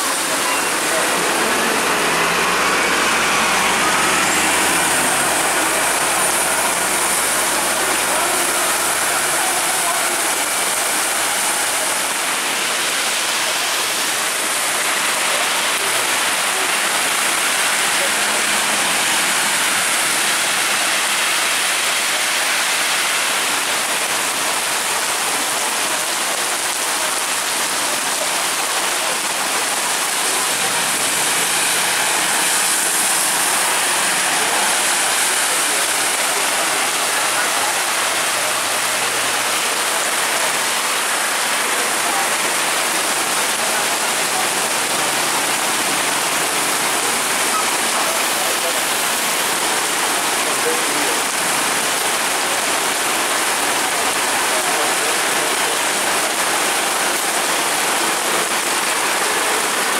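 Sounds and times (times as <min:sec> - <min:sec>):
bus tyres swishing through water: 0:00.0 - 0:59.9
heavy rain on road: 0:00.0 - 0:59.9.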